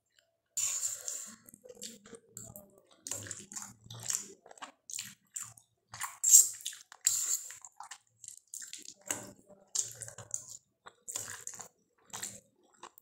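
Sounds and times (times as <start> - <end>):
chewing: 0.1 - 13.0
slurping noodles: 0.6 - 1.9, 3.1 - 12.9.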